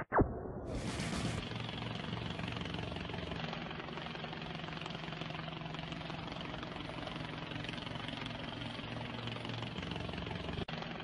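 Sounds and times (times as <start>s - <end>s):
mechanical drone with low throb: 0.4s - 11.0s.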